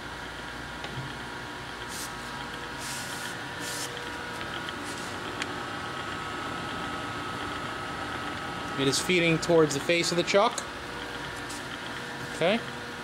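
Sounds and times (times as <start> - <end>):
lathe gear hum and whine: 0.0 - 13.0.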